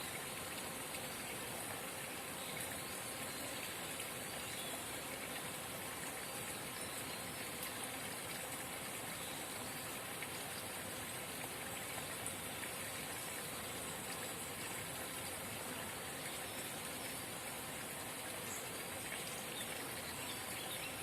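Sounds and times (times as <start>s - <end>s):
faint water drips: 0.0s - 21.0s
spring water babbling: 0.0s - 21.0s.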